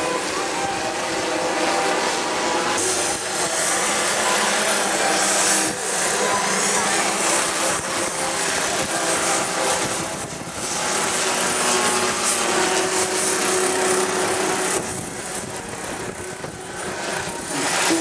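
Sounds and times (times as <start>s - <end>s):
model helicopter whining: 0.0s - 18.0s.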